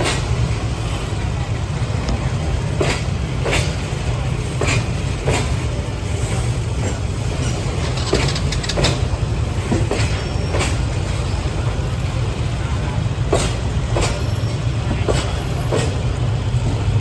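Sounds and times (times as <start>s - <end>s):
wheels clacking over rail joints: 0.0s - 12.4s, 13.0s - 17.0s
freight train rumbling: 0.0s - 17.0s.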